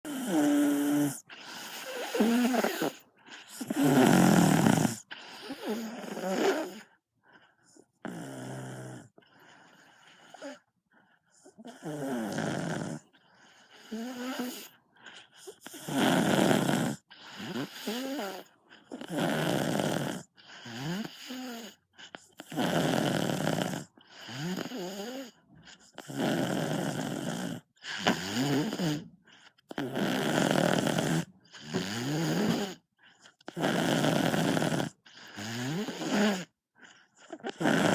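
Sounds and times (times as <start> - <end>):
child snoring loudly: 0.1 - 6.9, 8.0 - 9.2, 10.2 - 10.6, 11.6 - 13.1, 13.7 - 14.7, 15.4 - 21.8, 22.4 - 29.1, 29.7 - 36.6, 37.2 - 37.9.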